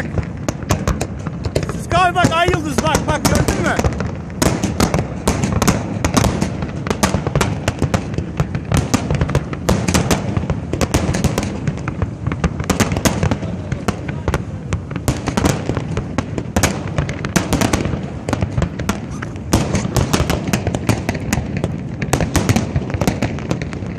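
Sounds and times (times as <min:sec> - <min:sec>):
fireworks cracks and bangs: 0:00.0 - 0:23.9.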